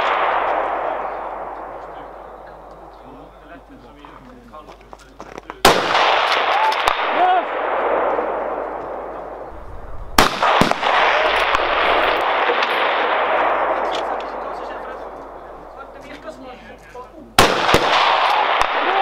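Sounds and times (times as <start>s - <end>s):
rifle shots echoing: 0.0s - 3.6s, 5.6s - 16.2s, 17.4s - 19.0s.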